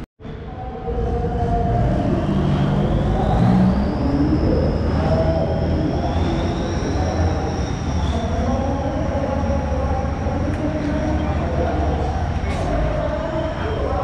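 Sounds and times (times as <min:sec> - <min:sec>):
drag racing engines rumbling: 0:00.2 - 0:14.0.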